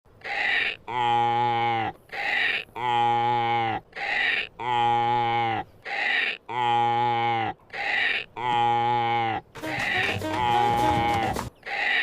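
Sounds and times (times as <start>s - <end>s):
donkey braying: 0.2s - 12.0s.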